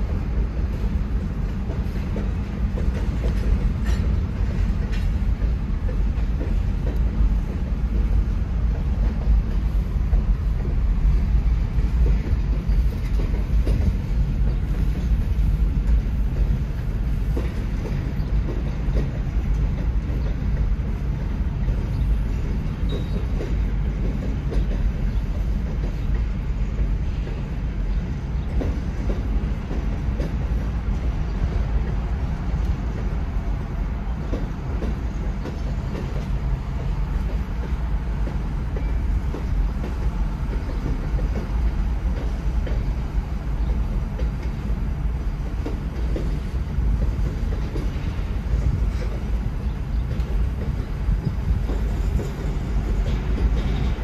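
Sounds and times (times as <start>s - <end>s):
freight train rumbling: 0.0s - 54.0s
wheels clacking on rails: 0.0s - 54.0s.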